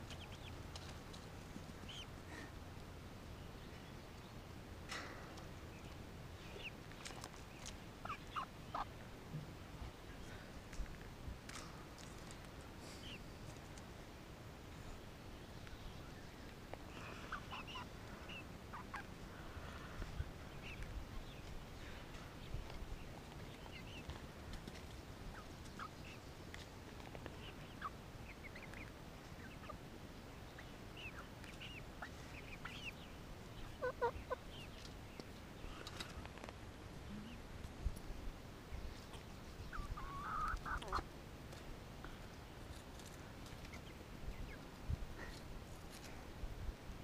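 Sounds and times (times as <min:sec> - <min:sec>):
chickens clucking and peeping: 0:00.0 - 0:47.0.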